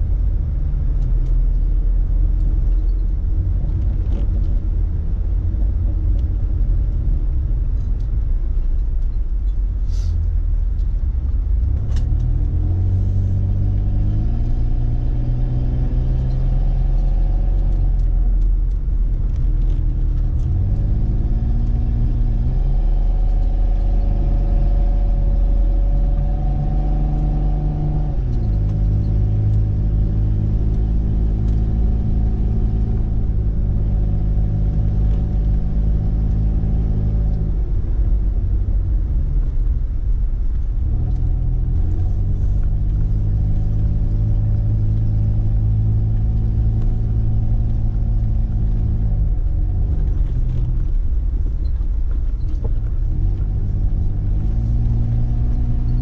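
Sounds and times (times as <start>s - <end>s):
car engine drone from inside: 0.0s - 56.0s.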